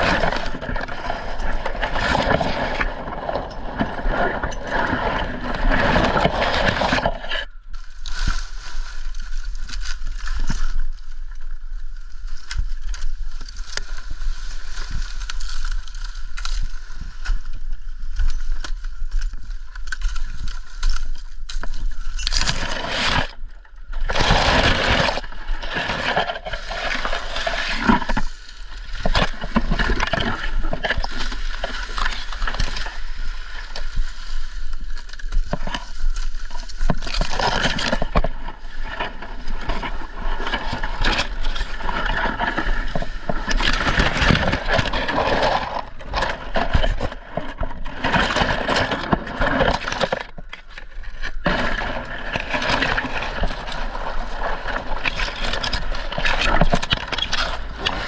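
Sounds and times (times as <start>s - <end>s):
dry palm fronds crackling and snapping: 0.0s - 58.0s.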